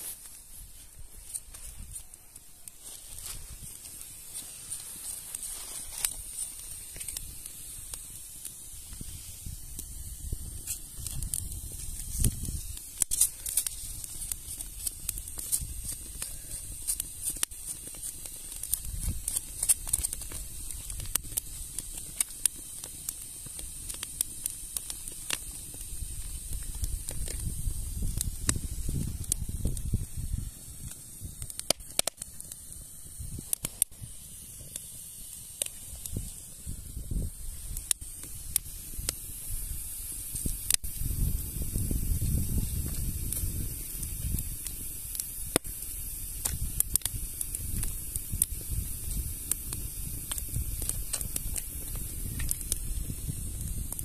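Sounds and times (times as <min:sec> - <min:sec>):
food cooking over fire: 0:00.0 - 0:54.0.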